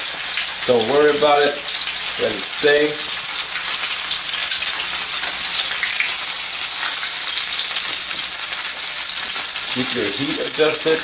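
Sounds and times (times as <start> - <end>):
hot oil sizzling in a frying pan: 0.0 - 11.0.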